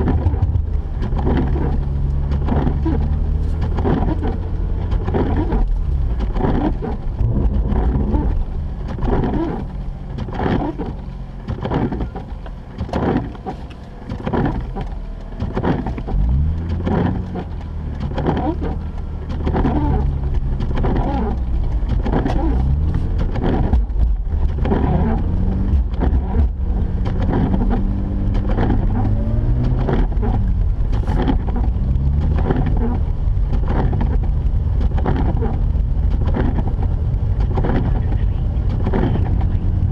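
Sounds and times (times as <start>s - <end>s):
car engine from inside: 0.0s - 39.9s
tyre and road noise: 0.0s - 39.9s.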